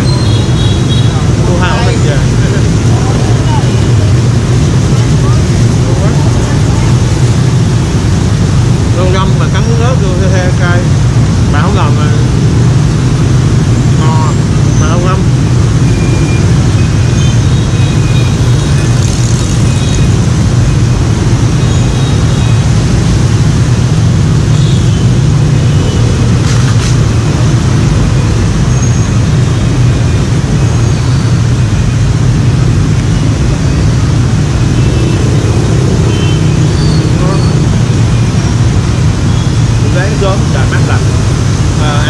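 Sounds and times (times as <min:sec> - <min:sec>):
motorbikes and scooters passing: 0:00.0 - 0:42.0.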